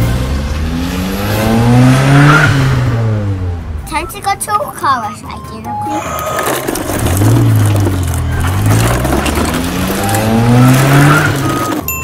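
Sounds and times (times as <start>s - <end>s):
race car engine revving: 0.0s - 3.9s, 5.7s - 11.8s.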